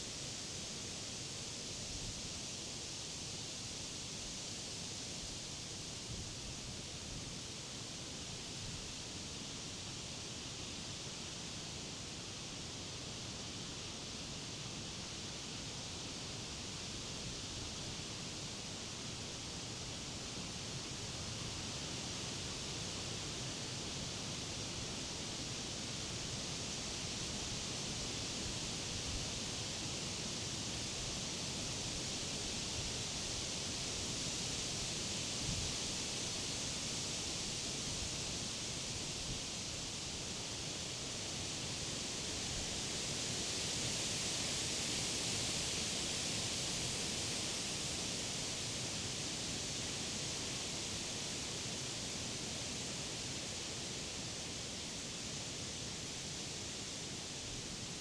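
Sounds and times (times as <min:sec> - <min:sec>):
wind rustling leaves: 0:04.1 - 0:58.0.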